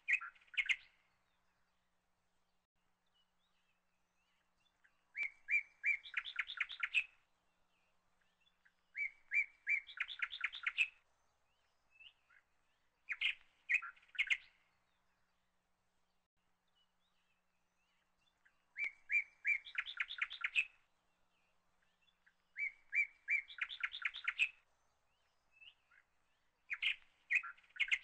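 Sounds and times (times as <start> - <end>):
bird singing high chirps: 0.0 - 1.2, 3.1 - 7.2, 8.2 - 15.3, 16.7 - 20.8, 21.4 - 28.0.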